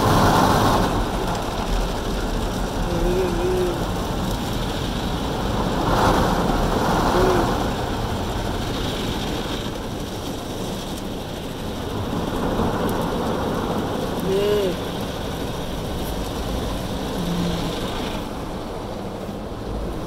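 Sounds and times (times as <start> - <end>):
car wash spraying and scrubbing: 0.0 - 20.0.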